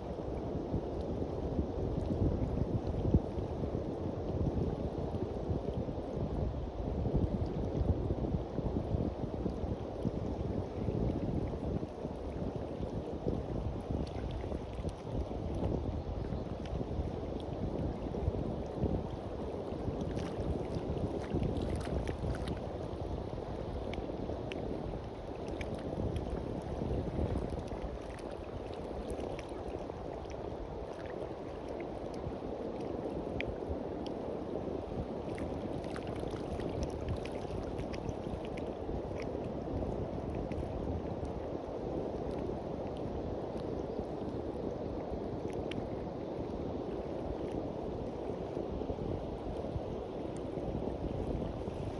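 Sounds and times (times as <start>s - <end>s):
wind rumbling on microphone: 0.0s - 51.9s
sea waves washing on beach: 8.4s - 51.9s.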